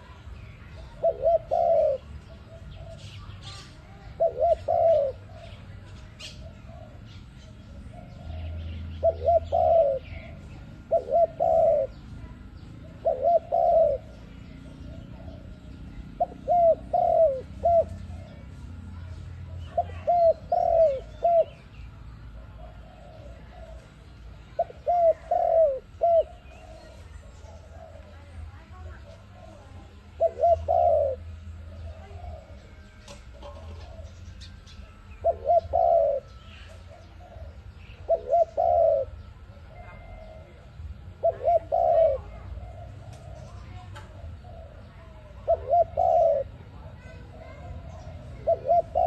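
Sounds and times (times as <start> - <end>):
dove cooing: 0.0 - 49.0
small birds chirping: 0.0 - 49.0.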